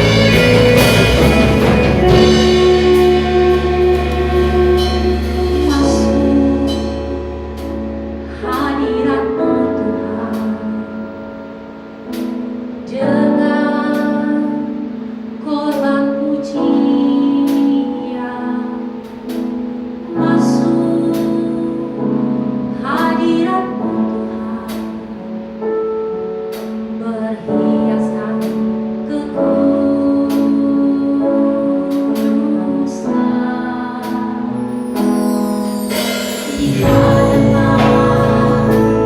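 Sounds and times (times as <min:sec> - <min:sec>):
woman singing worship song: 0:00.0 - 0:11.6, 0:12.8 - 0:19.3, 0:20.0 - 0:25.6, 0:26.8 - 0:39.0
piano accompaniment: 0:00.0 - 0:39.0.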